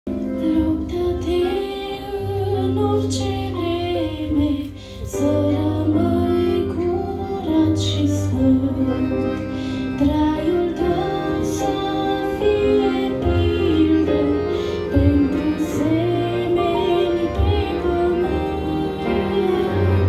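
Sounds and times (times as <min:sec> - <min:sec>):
instrumental accompaniment with bass: 0:00.1 - 0:20.0
woman singing into microphone: 0:00.1 - 0:20.0.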